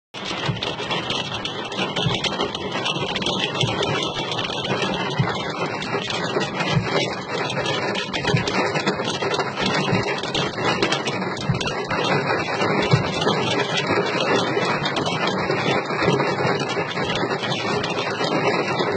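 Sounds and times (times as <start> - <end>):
rain falling steadily: 0.2 - 18.9.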